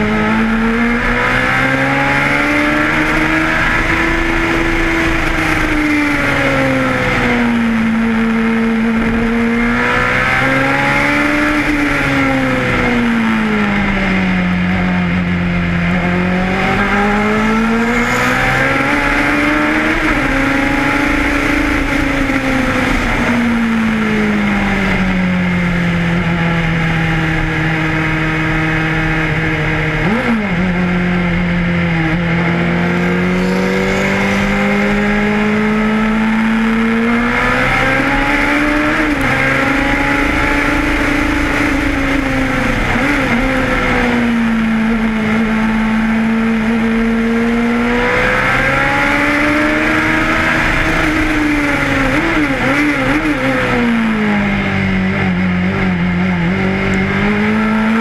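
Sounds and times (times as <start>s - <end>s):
racing car engine: 0.0s - 58.0s.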